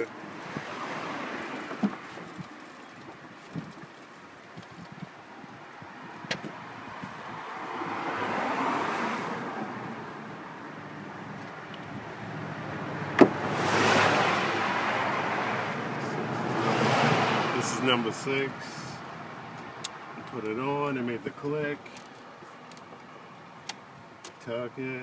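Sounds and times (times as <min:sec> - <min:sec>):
vehicles passing by: 0:00.0 - 0:25.0.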